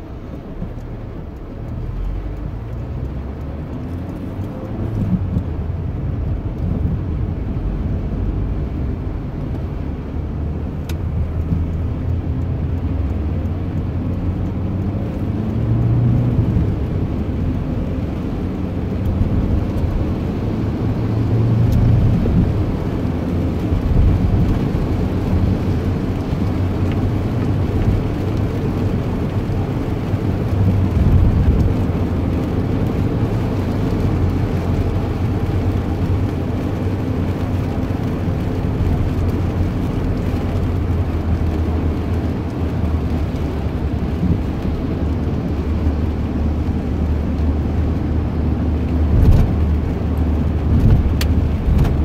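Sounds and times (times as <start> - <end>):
low rumble with faint hum: 0.0 - 52.0.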